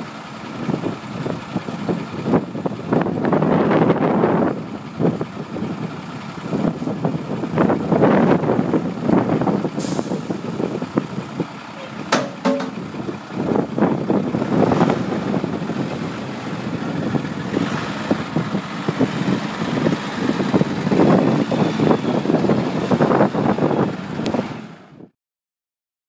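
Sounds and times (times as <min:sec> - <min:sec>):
diesel truck engine running: 0:00.0 - 0:25.1
wind on microphone: 0:00.6 - 0:12.1, 0:12.8 - 0:25.1.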